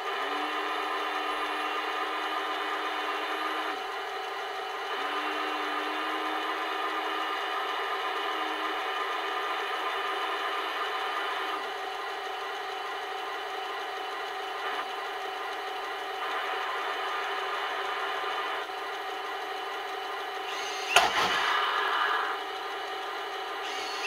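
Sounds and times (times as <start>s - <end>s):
turret drive whirring: 0.0s - 24.0s.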